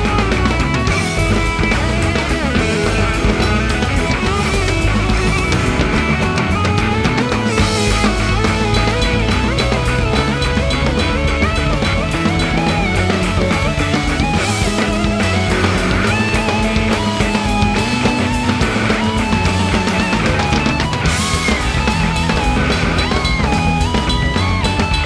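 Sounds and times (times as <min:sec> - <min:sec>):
distorted electric guitar: 0:00.0 - 0:25.0
drum kit: 0:00.0 - 0:25.0.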